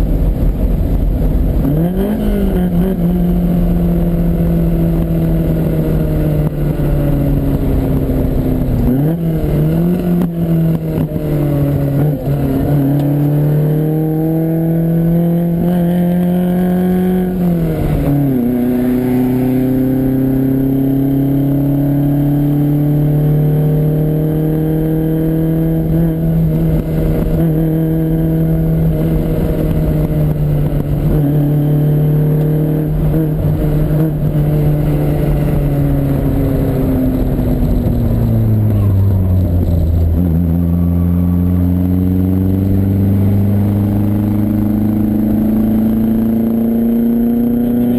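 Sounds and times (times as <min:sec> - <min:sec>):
car engine revving under load: 0:00.0 - 0:47.9.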